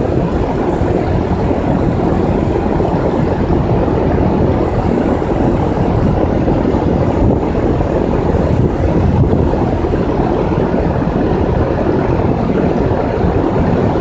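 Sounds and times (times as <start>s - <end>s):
air conditioner running: 0.0s - 14.0s.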